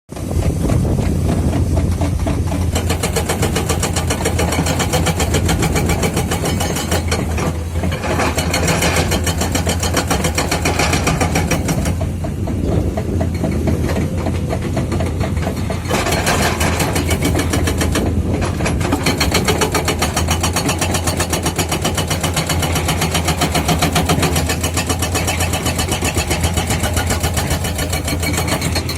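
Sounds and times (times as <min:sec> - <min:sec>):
diesel engine running: 0:00.1 - 0:28.9
hydraulic breaker hammering rock: 0:00.2 - 0:28.9.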